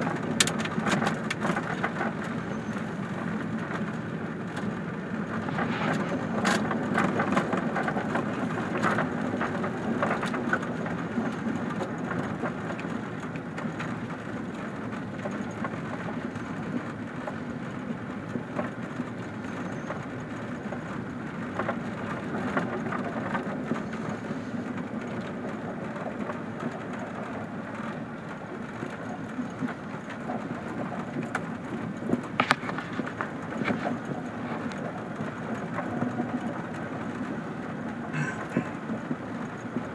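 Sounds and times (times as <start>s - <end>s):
engine and tyre rumble: 0.0s - 39.9s
gravel crunching under tyres: 0.0s - 39.9s.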